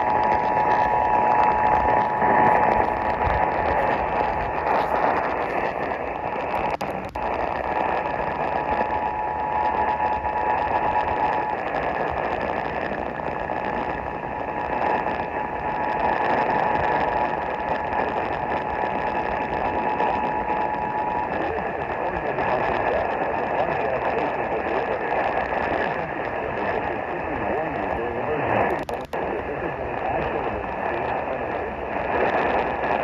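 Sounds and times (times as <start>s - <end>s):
radio static: 0.0s - 33.0s.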